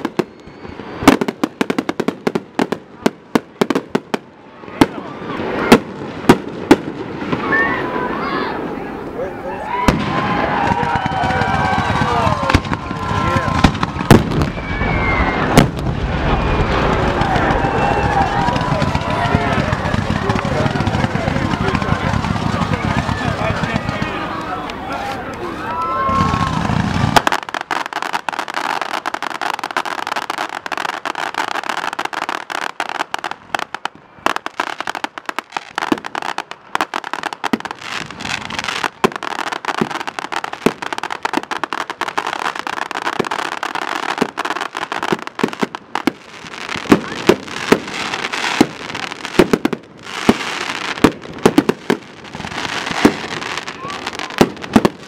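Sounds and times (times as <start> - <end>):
loud firework bangs: 0.0 - 8.7, 9.8 - 25.2, 26.0 - 55.0
fireworks crackling and popping: 0.0 - 55.0.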